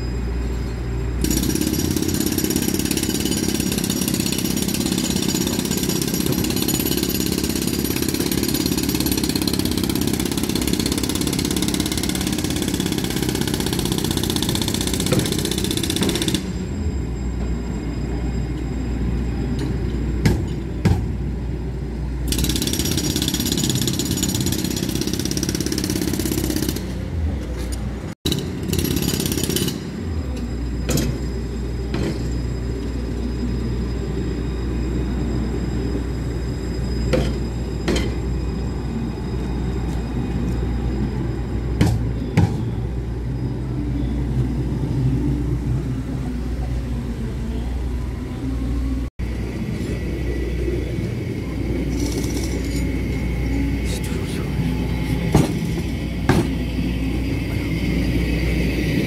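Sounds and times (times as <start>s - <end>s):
tram rumble: 0.0s - 59.0s.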